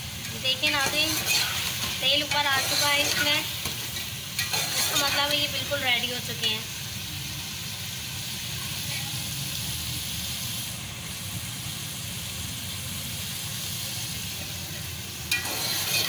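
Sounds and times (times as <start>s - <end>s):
masala sizzling in oil: 0.0s - 16.0s.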